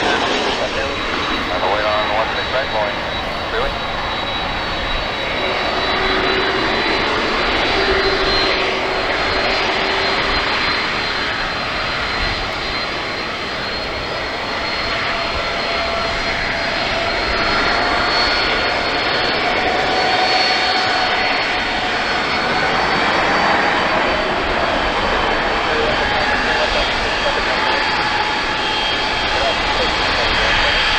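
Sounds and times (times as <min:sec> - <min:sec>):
jet engines roaring and whining: 0:00.0 - 0:30.9.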